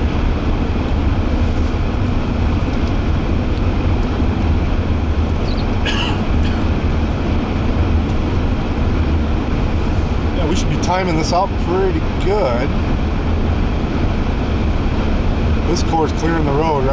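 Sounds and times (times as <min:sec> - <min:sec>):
road and engine rumble: 0:00.0 - 0:16.9.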